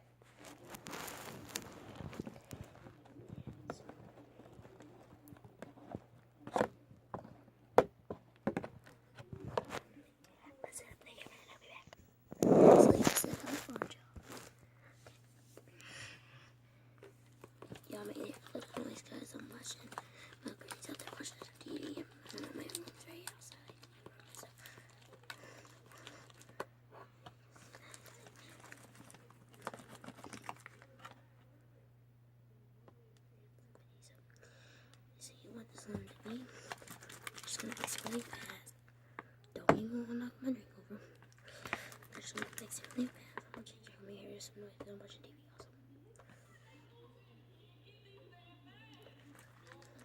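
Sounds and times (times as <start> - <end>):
faint low hum: 0.0 - 50.0.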